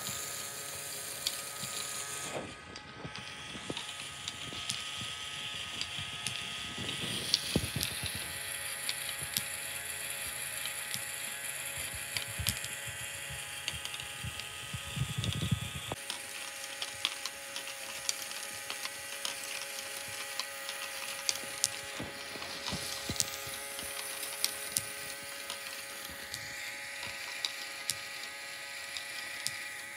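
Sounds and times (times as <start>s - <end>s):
toy motor whine: 0.0s - 29.9s.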